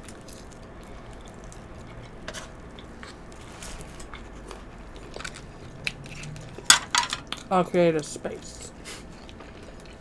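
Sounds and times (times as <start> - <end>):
person chewing: 0.0 - 7.5, 8.7 - 10.0.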